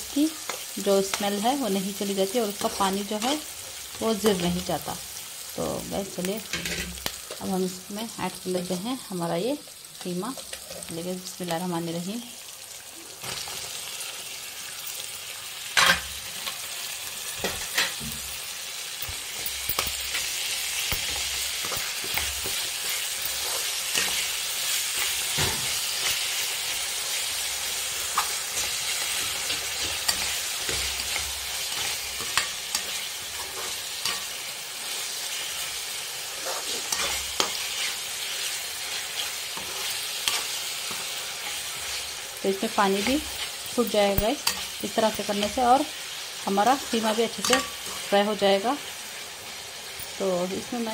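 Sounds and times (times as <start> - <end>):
meat sizzling in oil: 0.0 - 50.9.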